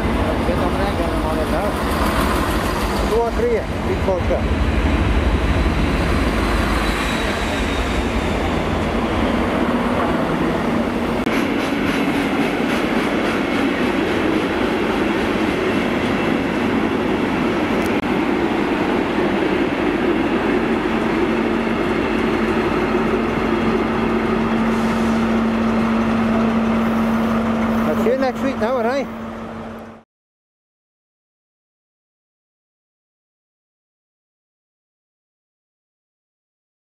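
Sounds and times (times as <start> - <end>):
train wheels rumbling on rails: 0.0 - 29.7.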